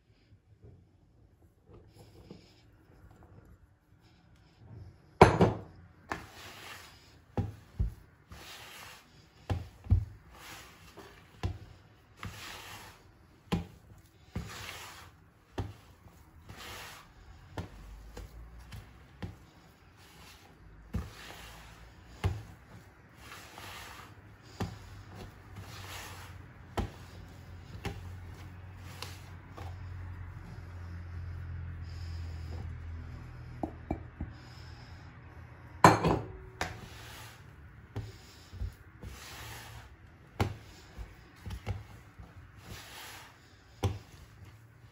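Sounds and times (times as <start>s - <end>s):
hand mixing dough in plastic bowl: 5.8s - 35.0s, 36.4s - 44.9s.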